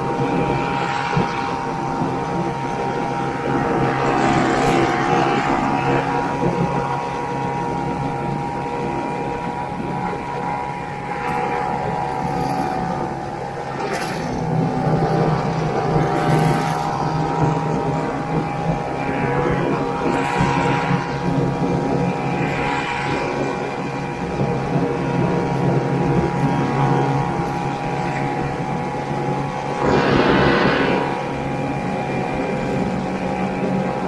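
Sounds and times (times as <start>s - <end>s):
snowmobile engine running: 0.0s - 34.0s.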